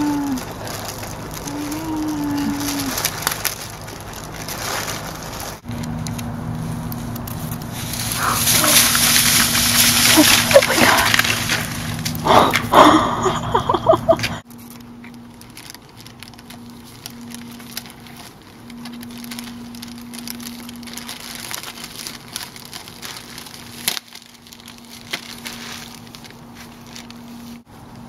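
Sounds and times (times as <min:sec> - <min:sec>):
plastic bags crinkling: 0:00.0 - 0:13.0, 0:14.4 - 0:27.6
faint steady hum: 0:00.0 - 0:28.0.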